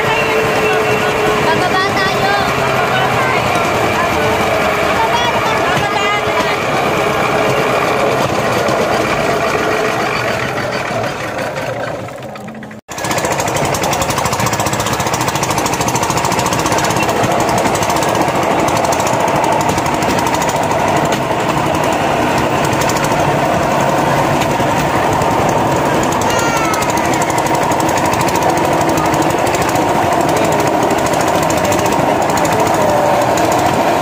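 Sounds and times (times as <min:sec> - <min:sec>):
rail trolley engine clattering: 0:00.0 - 0:34.0.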